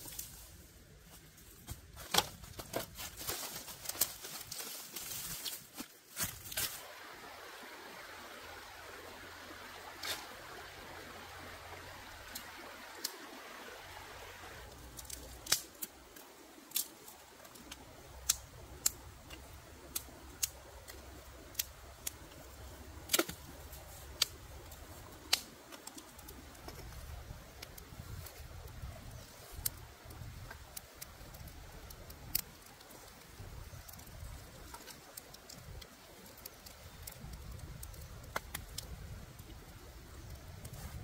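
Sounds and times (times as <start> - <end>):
sharp pops and crackles: 1.4 - 6.9, 11.3 - 13.4, 14.4 - 41.0.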